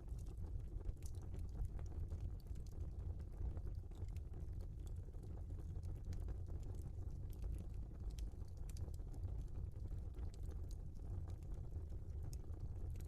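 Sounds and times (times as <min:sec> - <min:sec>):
fire crackling in fireplace: 0:00.0 - 0:13.0.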